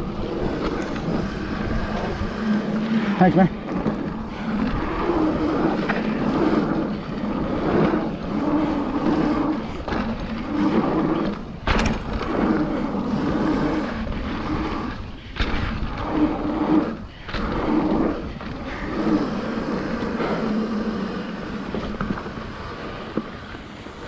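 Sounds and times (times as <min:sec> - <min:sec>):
bike tyre and frame rattle: 0:00.0 - 0:24.0
rising and falling drone: 0:00.0 - 0:24.0.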